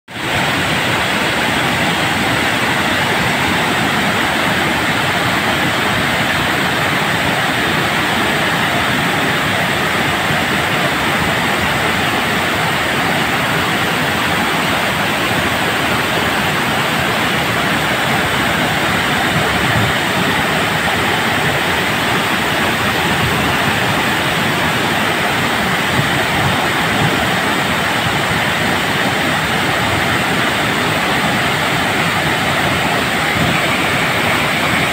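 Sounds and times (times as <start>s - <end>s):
water rushing down dam spillway: 0.1s - 34.9s.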